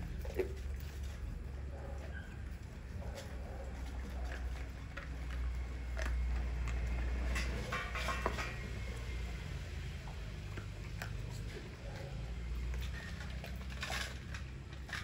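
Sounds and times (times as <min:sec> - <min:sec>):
dogs chewing bones: 0:00.0 - 0:15.0.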